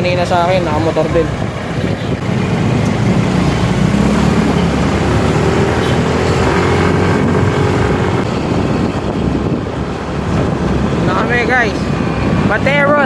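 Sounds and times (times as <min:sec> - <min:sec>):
motorcycle running: 0:00.0 - 0:13.0
wind noise on microphone: 0:00.0 - 0:13.0.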